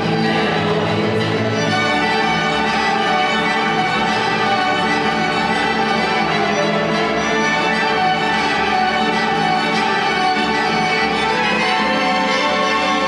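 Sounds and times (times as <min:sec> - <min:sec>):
acoustic guitars: 0:00.0 - 0:13.0
cello: 0:00.0 - 0:13.0
flutes: 0:00.0 - 0:13.0
trumpet: 0:01.4 - 0:13.0.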